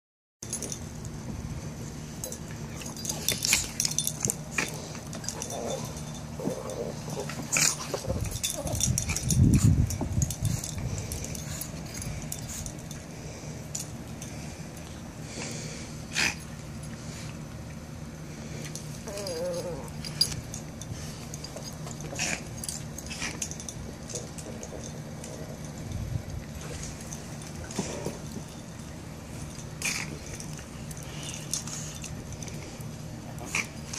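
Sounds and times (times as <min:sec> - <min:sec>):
collar tags jingling: 0:00.4 - 0:15.0, 0:18.6 - 0:33.9
steady low hum: 0:00.4 - 0:33.9
dogs mouthing and scuffling: 0:00.5 - 0:33.9.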